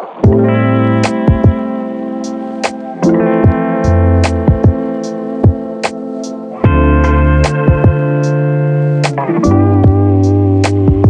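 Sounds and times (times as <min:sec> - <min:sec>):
drums bass and guitar music: 0:00.2 - 0:11.0.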